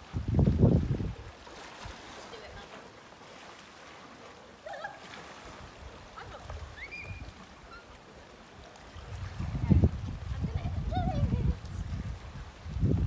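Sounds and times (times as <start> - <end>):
sea water among rocks: 0.0 - 13.0.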